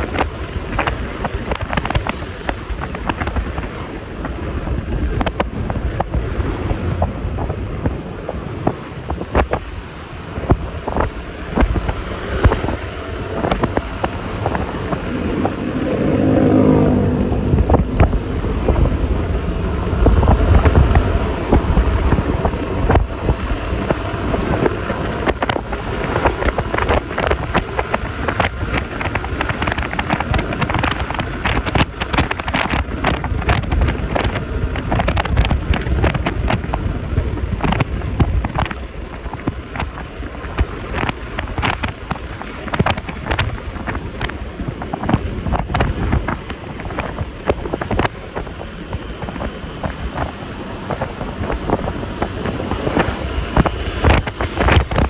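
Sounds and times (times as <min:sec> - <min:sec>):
pitched engine hum: 0:00.0 - 0:55.0
scooter engine and tyre rumble: 0:00.0 - 0:55.0
wind buffeting on microphone: 0:00.0 - 0:55.0.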